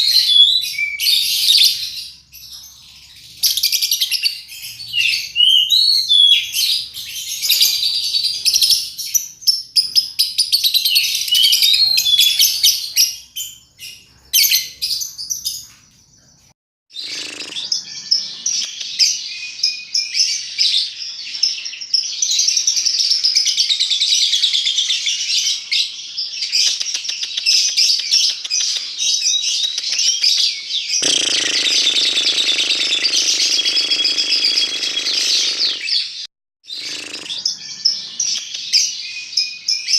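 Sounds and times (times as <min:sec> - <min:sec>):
bird chattering song: 0:00.0 - 0:15.6, 0:17.0 - 0:20.4, 0:26.5 - 0:39.9.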